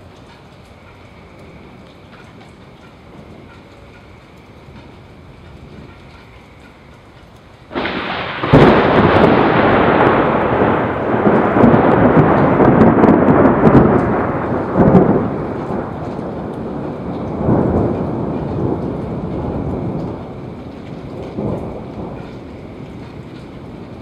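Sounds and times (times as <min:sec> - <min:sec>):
rain falling: 0:00.0 - 0:24.0
thunder crack and rumble: 0:00.0 - 0:24.0.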